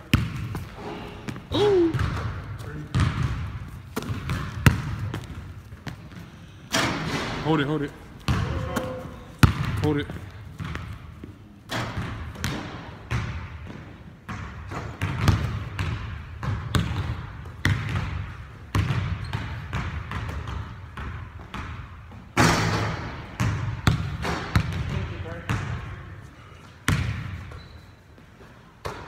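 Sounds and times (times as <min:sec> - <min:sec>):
basketballs bouncing on wooden floor: 0:00.0 - 0:26.0, 0:26.9 - 0:29.0.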